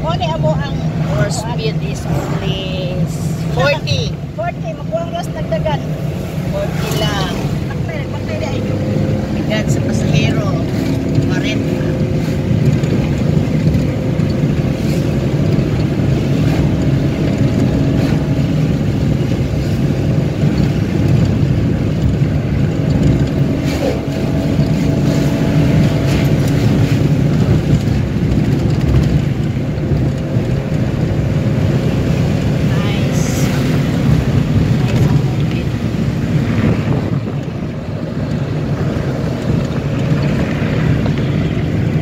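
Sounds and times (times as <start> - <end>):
car engine and tyre hum: 0.0 - 42.0.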